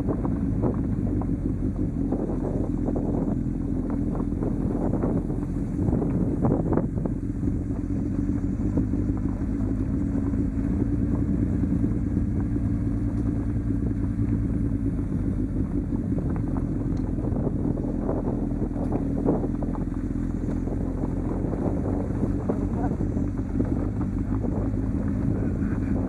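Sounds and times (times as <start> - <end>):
motorcycle engine running: 0.0 - 26.0
tyres on gravel track: 0.0 - 26.0
wind noise on microphone: 0.0 - 26.0.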